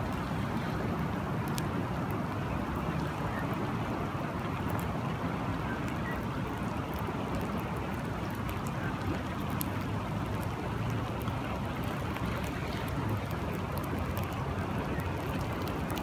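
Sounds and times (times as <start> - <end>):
faint dripping ticks: 0.0 - 16.0
rain: 0.0 - 16.0
river water rushing: 0.0 - 16.0.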